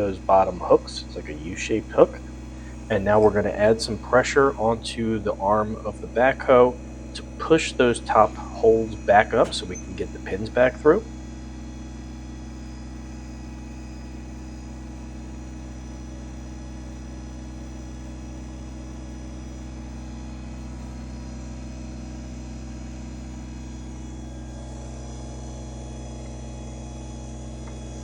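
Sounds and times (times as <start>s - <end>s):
tractor diesel engine running: 0.0s - 16.6s, 19.6s - 28.0s.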